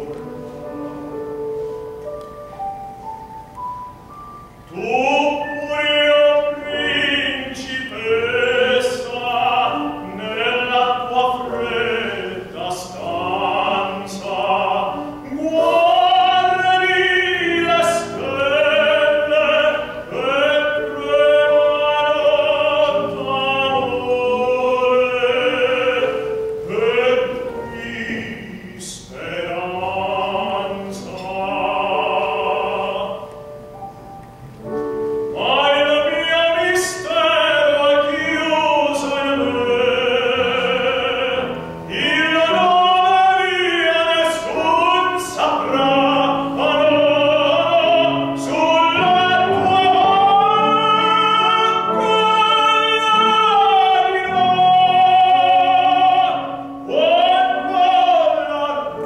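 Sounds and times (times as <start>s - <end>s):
operatic tenor singing: 0.0s - 0.8s, 4.6s - 33.6s, 35.2s - 59.0s
piano accompaniment: 0.0s - 59.0s.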